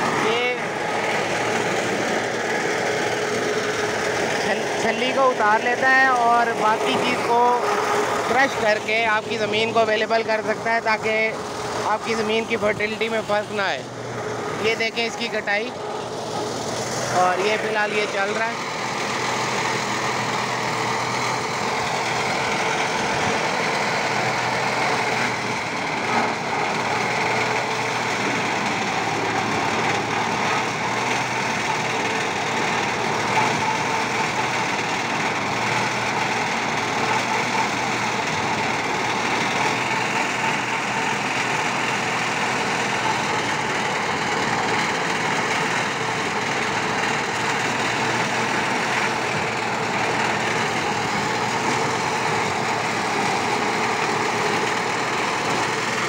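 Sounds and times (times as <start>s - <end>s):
harvester machinery cutting stalks: 0.0s - 56.0s
tractor diesel engine: 0.0s - 56.0s.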